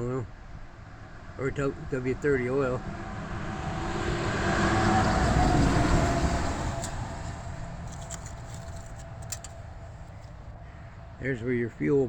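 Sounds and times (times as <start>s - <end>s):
vehicle rumble passing by: 0.6s - 11.3s.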